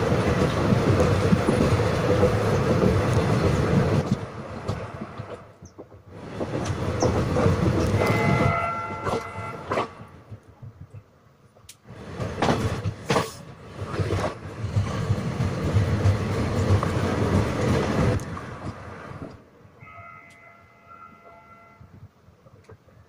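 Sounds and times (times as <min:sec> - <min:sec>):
train wheels clattering on track: 0:00.0 - 0:19.4
train rumbling: 0:00.0 - 0:23.0.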